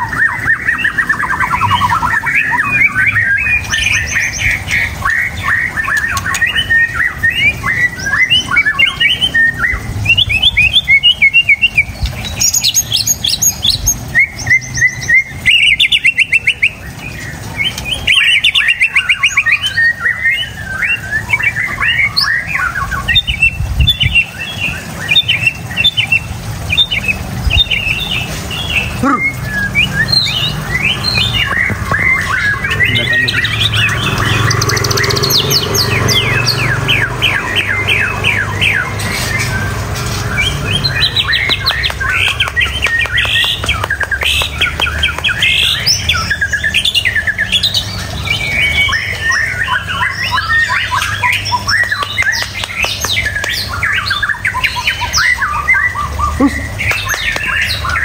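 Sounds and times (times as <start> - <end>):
bird singing whistles and trills: 0.0 - 58.0.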